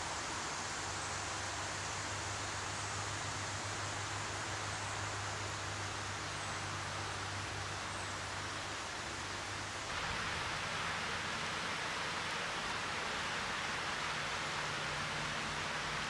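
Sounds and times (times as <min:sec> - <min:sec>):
flowing creek water: 0:00.0 - 0:16.0.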